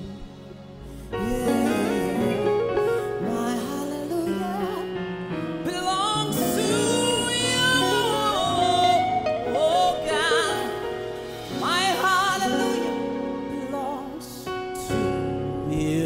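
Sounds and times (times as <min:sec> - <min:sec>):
instrumental accompaniment: 0:00.0 - 0:16.0
man singing gospel: 0:01.1 - 0:16.0.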